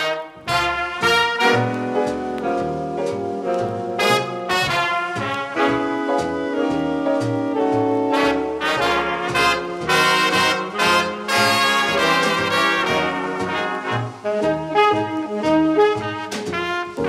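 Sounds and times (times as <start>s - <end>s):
brass jazz music: 0.0s - 17.0s
plodding bass line: 0.4s - 17.0s.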